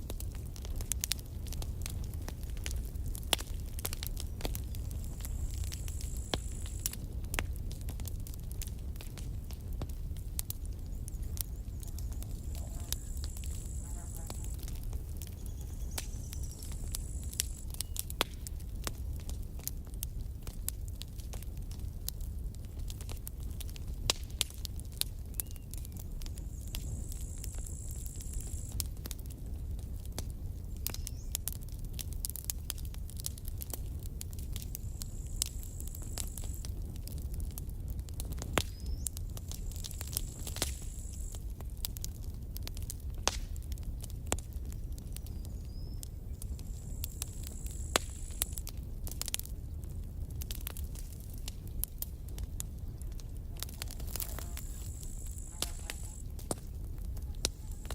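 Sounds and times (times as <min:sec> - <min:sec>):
campfire wood snapping: 0:00.0 - 0:57.9
flame rumbling: 0:00.0 - 0:57.9.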